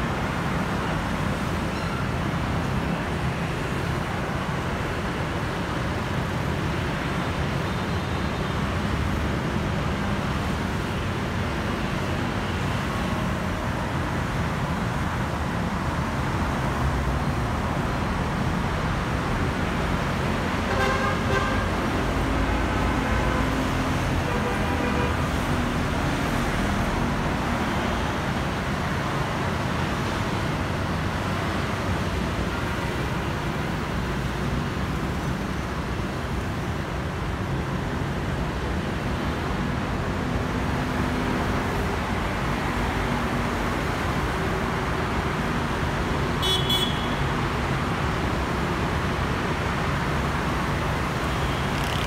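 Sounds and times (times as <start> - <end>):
motorbikes and cars passing: 0.0 - 52.0.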